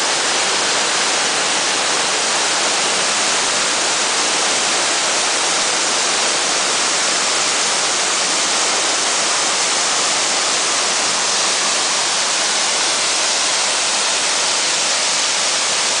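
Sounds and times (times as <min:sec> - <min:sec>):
waterfall rushing hiss: 0:00.0 - 0:16.0.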